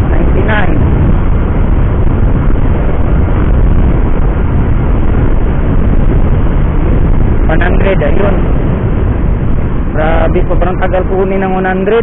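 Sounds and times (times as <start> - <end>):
wind noise rumbling on microphone: 0.0 - 12.0.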